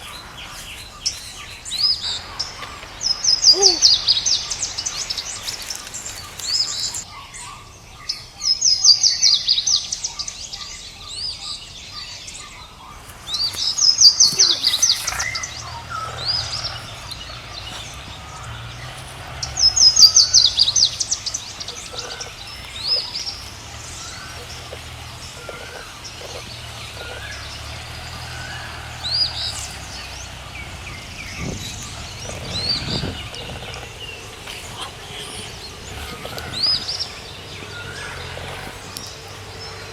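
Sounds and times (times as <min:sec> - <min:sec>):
faint bird chirps: 0:00.0 - 0:39.9.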